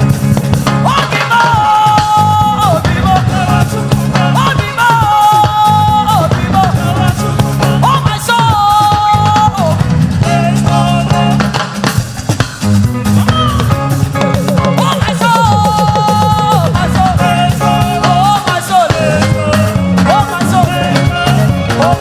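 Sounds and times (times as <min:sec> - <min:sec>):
live gospel band music: 0:00.0 - 0:22.0.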